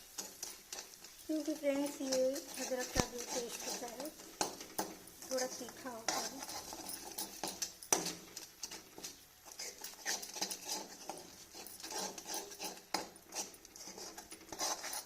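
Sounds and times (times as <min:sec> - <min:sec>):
spoon scraping paste in a pan: 0:00.0 - 0:15.0.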